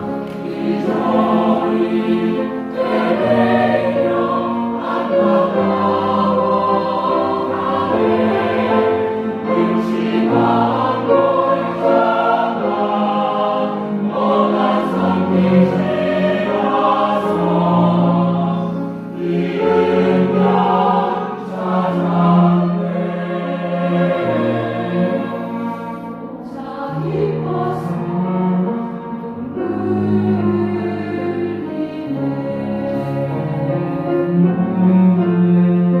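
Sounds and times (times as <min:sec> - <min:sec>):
choir singing: 0:00.0 - 0:35.9.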